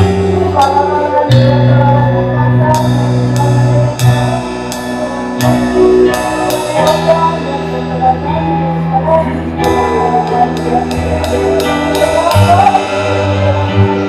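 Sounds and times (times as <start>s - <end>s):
worship band music: 0.0s - 14.0s
cymbal crashes: 2.7s - 14.0s.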